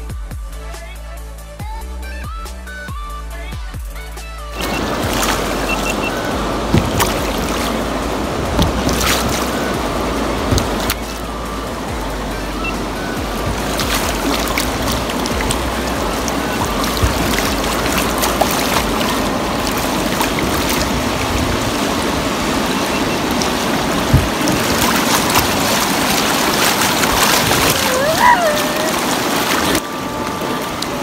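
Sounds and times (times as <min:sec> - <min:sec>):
river water rushing over rocks: 0:04.4 - 0:31.0
water splashing around raft: 0:04.5 - 0:31.0.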